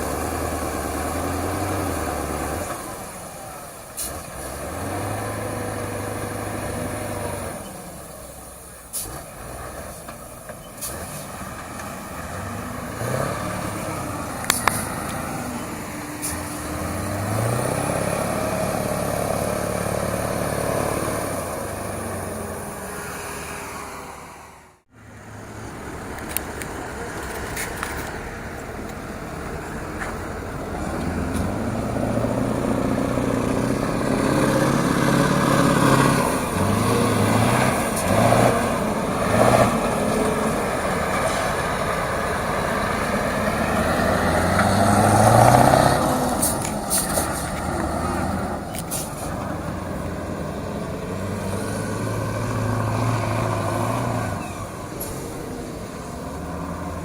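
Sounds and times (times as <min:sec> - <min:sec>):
truck engine under load: 0:00.0 - 0:57.0.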